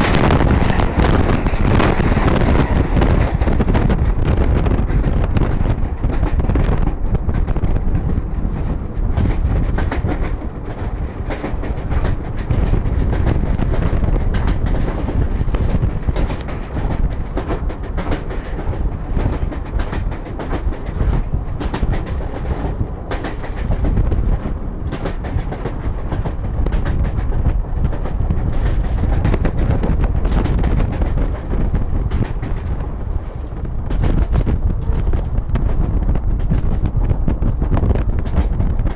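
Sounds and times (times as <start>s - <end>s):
train rumbling: 0.0s - 38.9s
wheels clattering over rail joints: 0.0s - 38.9s.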